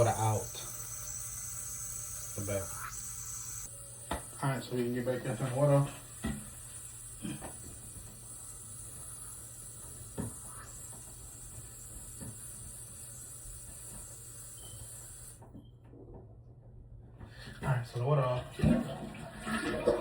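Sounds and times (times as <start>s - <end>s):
toilet fill valve water hiss: 0.0s - 15.5s, 17.4s - 20.0s.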